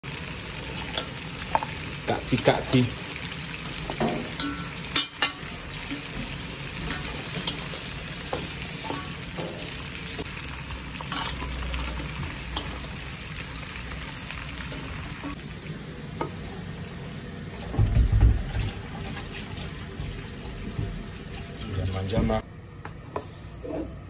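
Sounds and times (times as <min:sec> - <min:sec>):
chicken sizzling in a pot: 0:00.0 - 0:22.4.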